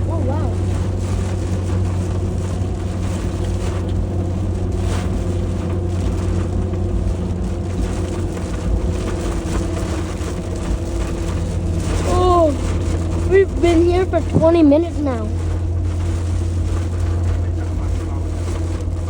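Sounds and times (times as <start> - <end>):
car engine and road hum: 0.0 - 19.0
heavy rain: 0.0 - 19.0.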